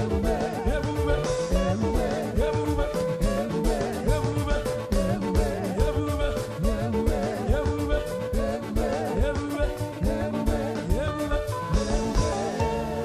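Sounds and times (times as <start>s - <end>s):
worship band music: 0.0s - 13.0s.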